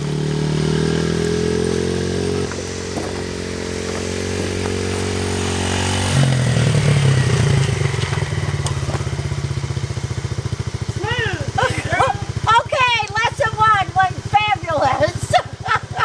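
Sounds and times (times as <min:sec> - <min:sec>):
mini bike engine: 0:00.0 - 0:16.0.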